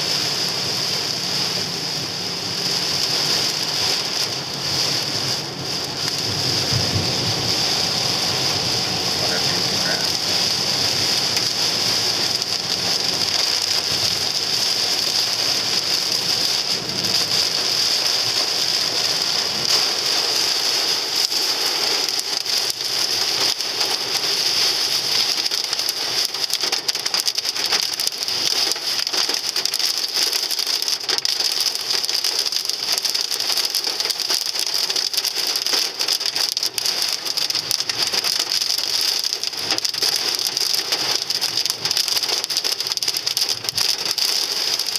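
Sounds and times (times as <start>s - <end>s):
hail pelting car body: 0.0s - 44.9s.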